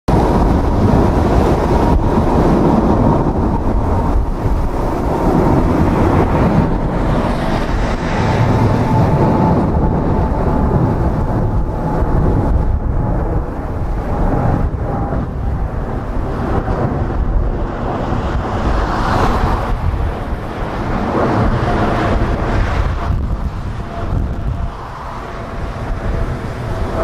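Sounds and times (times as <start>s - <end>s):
high whine dropping in pitch: 0.1s - 27.0s
jet airliner noise: 0.1s - 27.0s
wind buffeting microphone: 0.1s - 27.0s.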